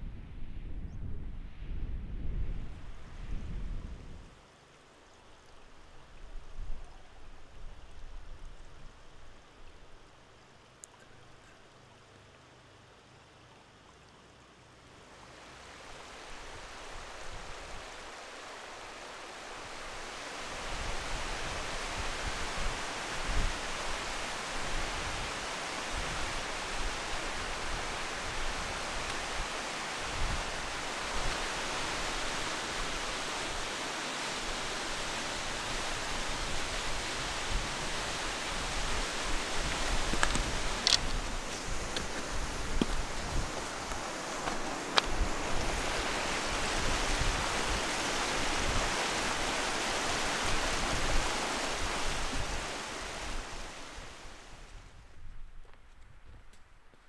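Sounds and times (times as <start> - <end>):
water rushing from stream and waterfall: 4.4 - 55.0.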